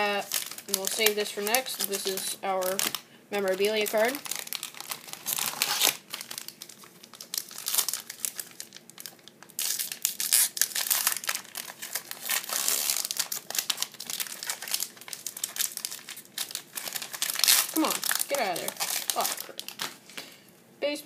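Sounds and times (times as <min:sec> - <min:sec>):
foil wrapper crinkling: 0:00.0 - 0:20.3.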